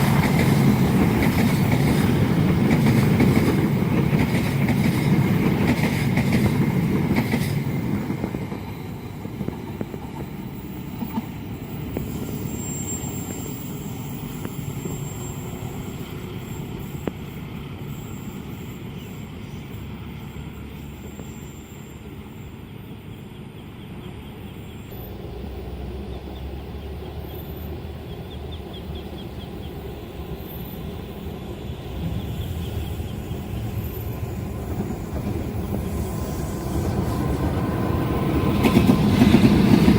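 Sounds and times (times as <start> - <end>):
train wheel and engine rumble: 0.0 - 39.9.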